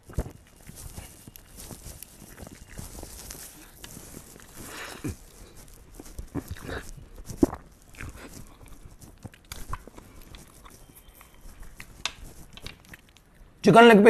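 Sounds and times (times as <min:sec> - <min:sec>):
wet chewing and lip-smacking: 0:00.0 - 0:13.5.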